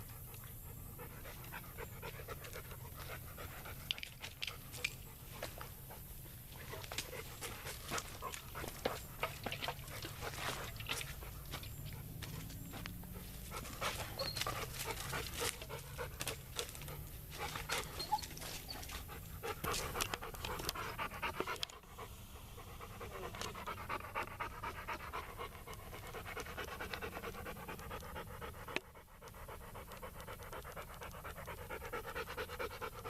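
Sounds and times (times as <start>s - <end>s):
dog panting: 0.0s - 33.0s.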